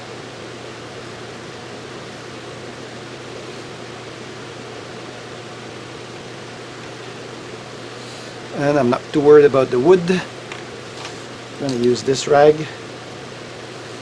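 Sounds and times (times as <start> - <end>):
low even hum: 0.0 - 14.0
steady background hiss: 0.0 - 14.0.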